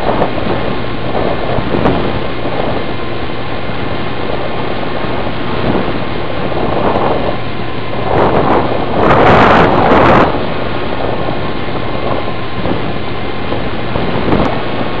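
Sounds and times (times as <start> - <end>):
airflow rushing over microphone: 0.0 - 15.0.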